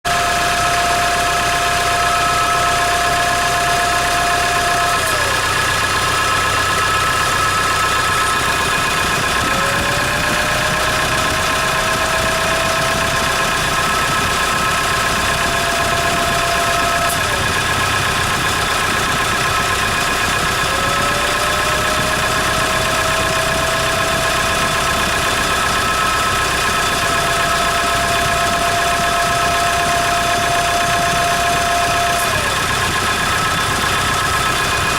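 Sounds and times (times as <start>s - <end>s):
engine idling: 0.0s - 34.9s
high whistle and whine: 0.1s - 34.9s.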